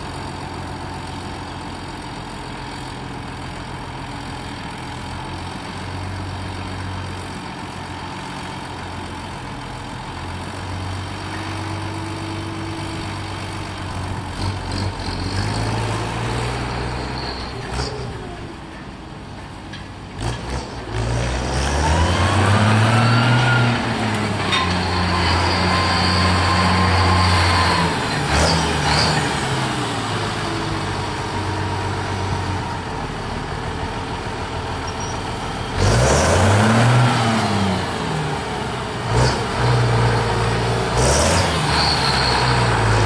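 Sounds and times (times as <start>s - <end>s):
tractor diesel engine revving: 0.0s - 18.6s, 20.0s - 43.0s.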